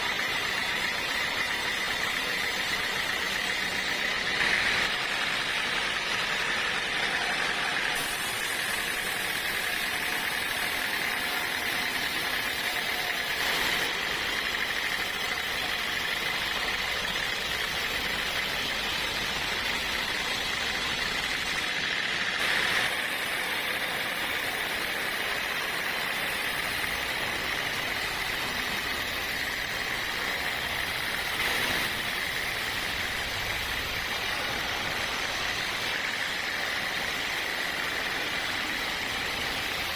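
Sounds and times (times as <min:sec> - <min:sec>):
machinery engine drone with hiss: 0:00.0 - 0:39.9.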